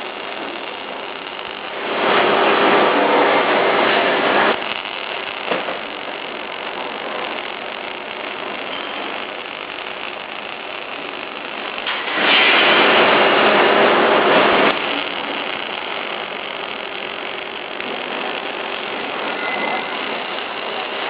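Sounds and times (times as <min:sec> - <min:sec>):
loud rough crackling: 0:00.0 - 0:21.0.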